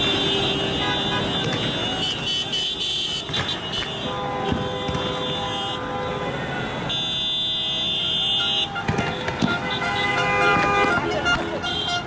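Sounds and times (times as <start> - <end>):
high-pitched car horn: 0.0 - 12.0
low car horn: 0.0 - 12.0.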